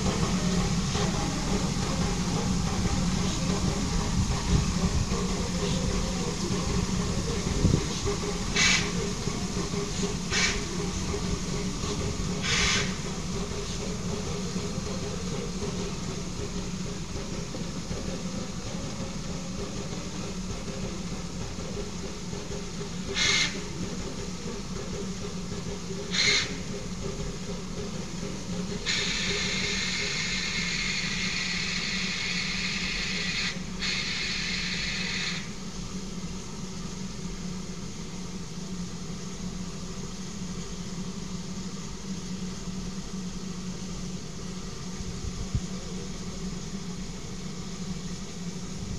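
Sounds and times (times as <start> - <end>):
sharp hisses of steam: 0.0 - 48.9
steam locomotive humming: 0.0 - 48.9.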